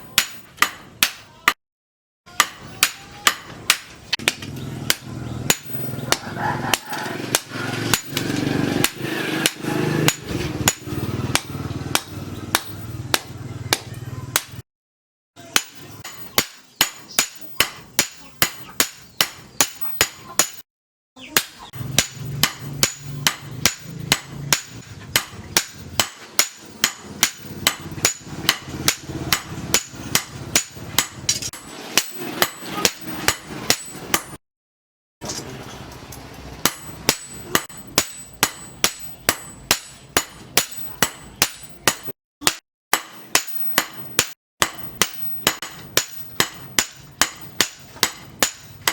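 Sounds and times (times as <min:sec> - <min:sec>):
hammer striking steel on anvil: 0:00.1 - 0:01.5, 0:02.3 - 0:14.6, 0:15.4 - 0:20.6, 0:21.3 - 0:34.4, 0:36.6 - 0:48.9.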